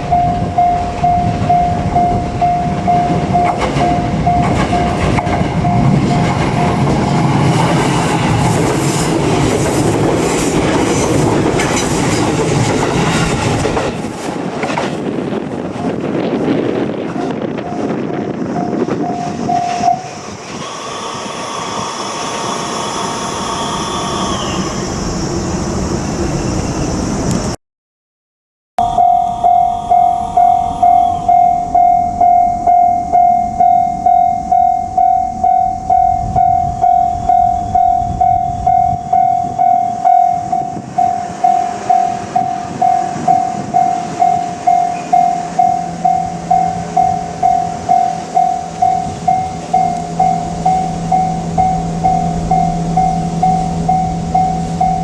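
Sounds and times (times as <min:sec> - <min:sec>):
level crossing warning bell: 0:00.0 - 0:13.2, 0:17.1 - 0:24.0, 0:28.8 - 0:55.0
electric train passing: 0:00.0 - 0:27.6, 0:28.8 - 0:55.0
low train hum: 0:00.0 - 0:27.6, 0:28.8 - 0:55.0.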